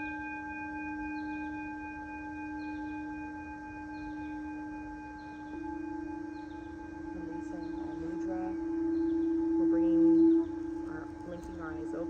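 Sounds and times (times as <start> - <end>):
singing bowl ringing: 0.0 - 12.0.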